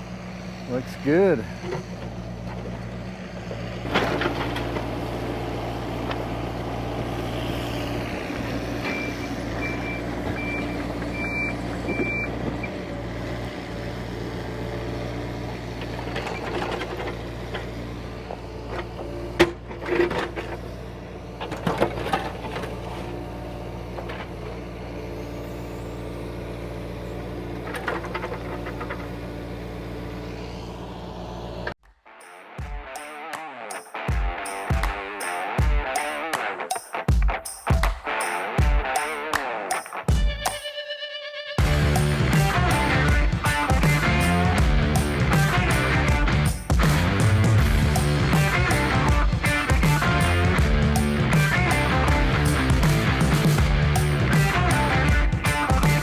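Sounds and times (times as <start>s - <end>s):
excavator diesel engine running: 0.0s - 31.8s, 41.6s - 56.0s.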